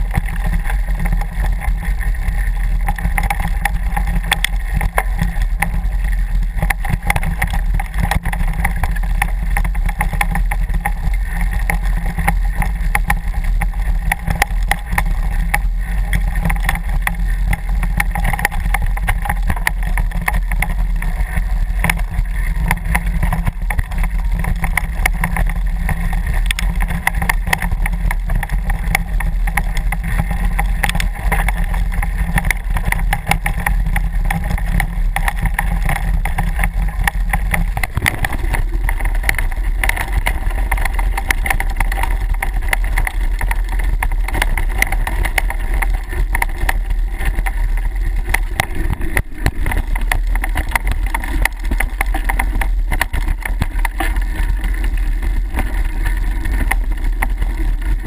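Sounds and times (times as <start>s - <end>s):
wind buffeting microphone: 0.0s - 51.6s
bike rattling over ground: 0.0s - 58.0s.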